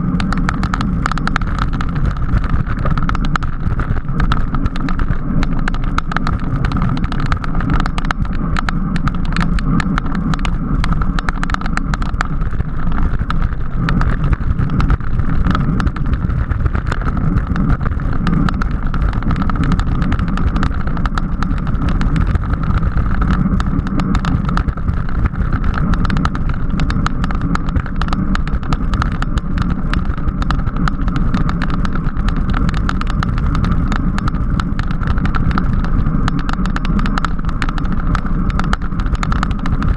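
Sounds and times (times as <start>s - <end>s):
constant hum: 0.0s - 39.9s
wind and road noise: 0.0s - 39.9s.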